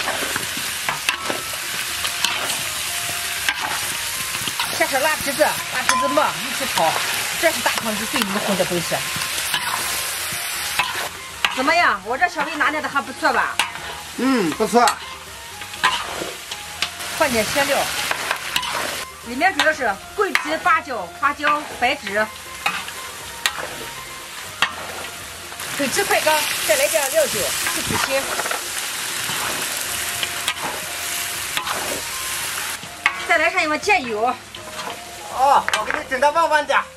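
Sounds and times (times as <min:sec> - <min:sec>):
metal spatula scraping wok: 0:00.0 - 0:36.1
chicken sizzling in hot oil: 0:00.0 - 0:36.9.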